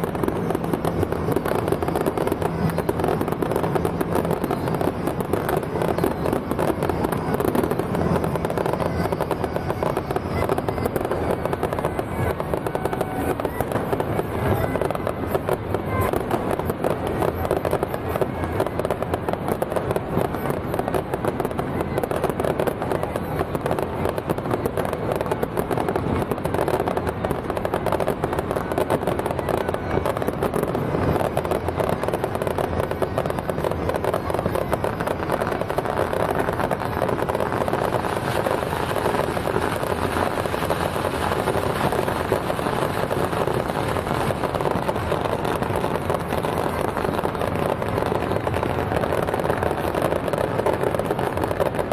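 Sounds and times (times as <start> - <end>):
fireworks crackling: 0.0 - 51.9.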